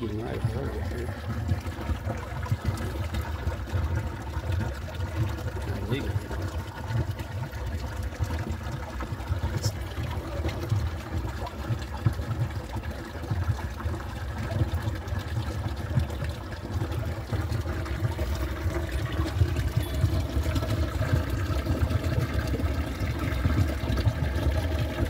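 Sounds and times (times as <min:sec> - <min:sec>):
stream rushing under rocks: 0:00.0 - 0:25.0.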